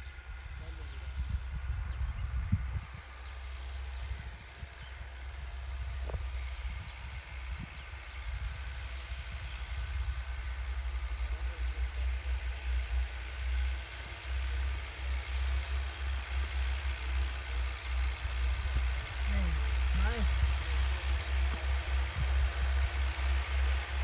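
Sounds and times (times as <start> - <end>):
diesel tractor engines under load: 0.0 - 24.0.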